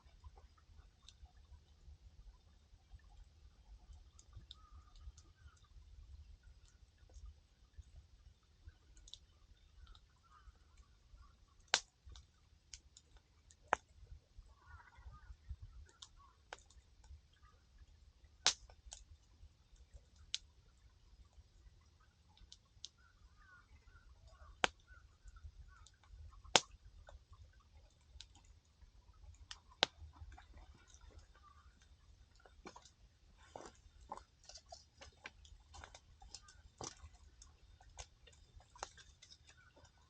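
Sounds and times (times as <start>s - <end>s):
wood fire crackling: 3.0s - 13.9s, 15.8s - 40.0s.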